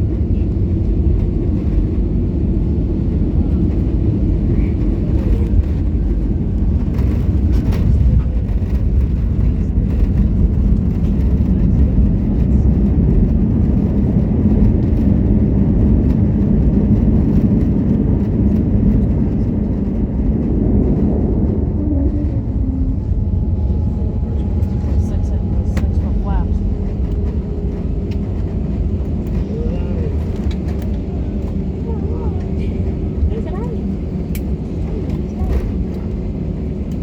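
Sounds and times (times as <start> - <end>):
airplane cabin low rumble: 0.0 - 37.0.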